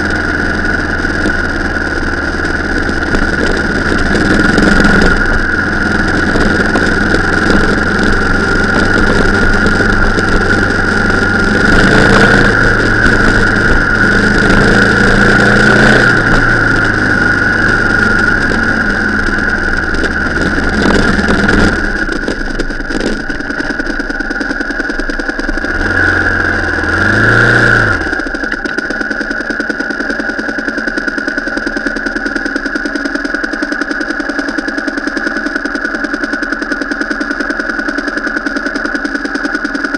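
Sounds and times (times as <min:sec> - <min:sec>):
engine revs: 0:00.0 - 0:32.4
vehicle engine whining under load: 0:00.0 - 0:39.9.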